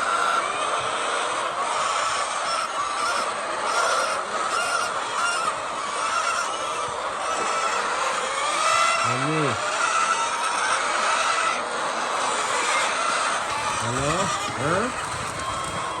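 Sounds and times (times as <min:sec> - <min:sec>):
hens clucking and squawking: 0:00.0 - 0:16.0.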